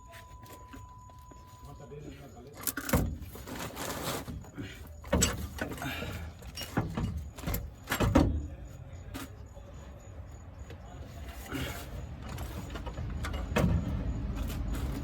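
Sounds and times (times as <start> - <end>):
tools and metal parts clanking: 0.0 - 9.6, 11.1 - 15.0.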